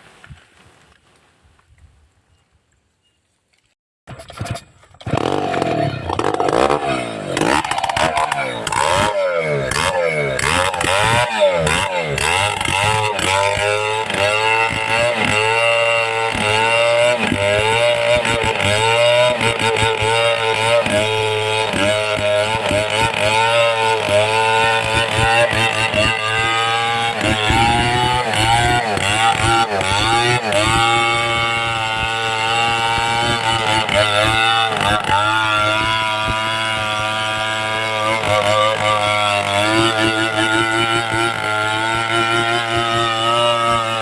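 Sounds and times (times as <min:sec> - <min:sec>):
chainsaw cutting at high revs: 0:05.0 - 0:44.0.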